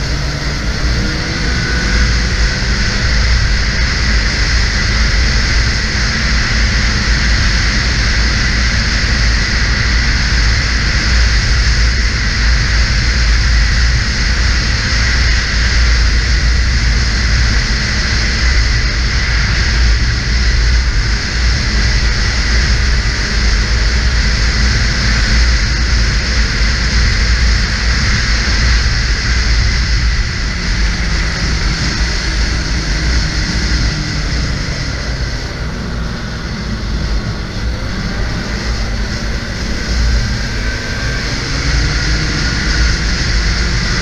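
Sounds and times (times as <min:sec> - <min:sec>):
snowmobile engine droning: 0:00.0 - 0:44.0
wind buffeting microphone: 0:00.0 - 0:44.0.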